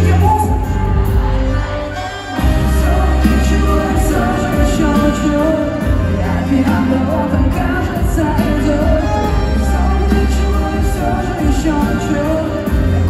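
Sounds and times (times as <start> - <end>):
band with heavy bass line: 0.0 - 13.0
woman singing lead vocal: 0.0 - 13.0.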